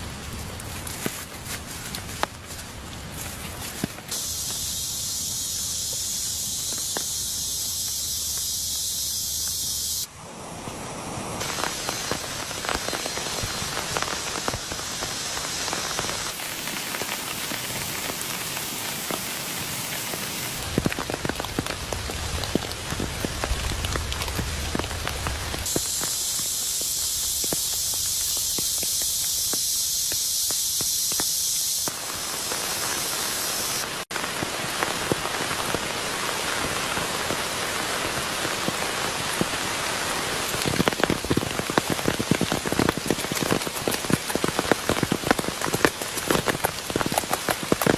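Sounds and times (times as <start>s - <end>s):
rain patter with crackling ticks: 0.0s - 9.8s, 11.4s - 47.9s
rain hissing: 0.0s - 47.9s.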